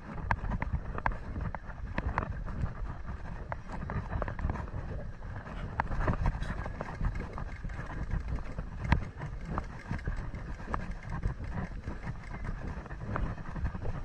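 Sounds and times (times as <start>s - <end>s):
low microphone rumble: 0.0s - 14.0s.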